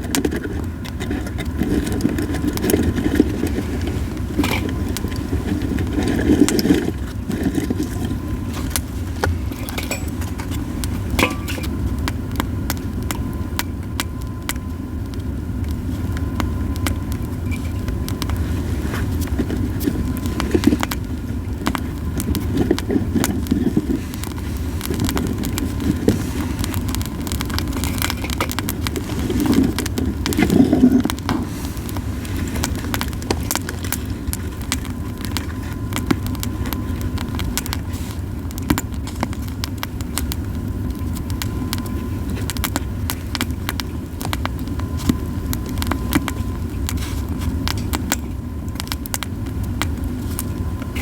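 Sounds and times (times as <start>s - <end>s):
campfire crackling and popping: 0.0s - 51.0s
low fire rumble: 0.0s - 51.0s.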